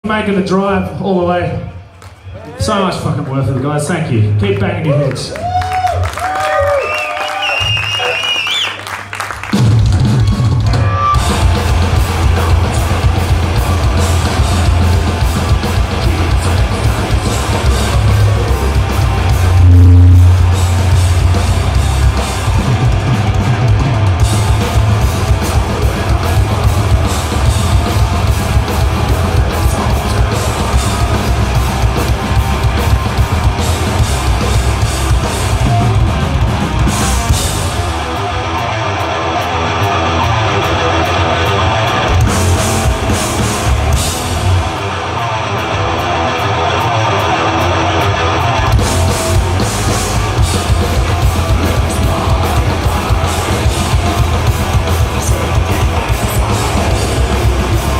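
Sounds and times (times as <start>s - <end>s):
bass guitar: 9.3s - 57.9s
distorted electric guitars: 9.3s - 57.9s
pounding drum kit: 9.3s - 57.9s.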